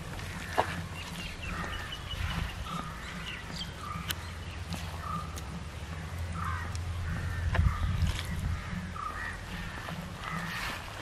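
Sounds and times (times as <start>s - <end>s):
steady low rumble: 0.0s - 11.0s
crows cawing: 0.2s - 4.1s, 4.9s - 11.0s.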